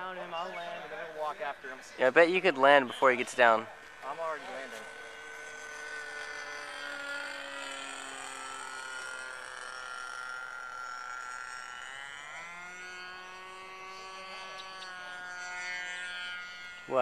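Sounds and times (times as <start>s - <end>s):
model airplane motor whining: 0.0s - 17.0s.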